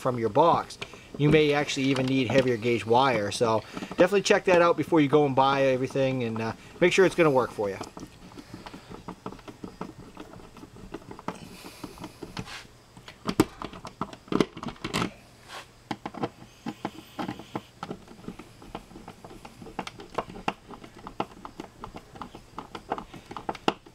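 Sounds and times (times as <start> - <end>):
small clicks and scraping: 0.0 - 23.9.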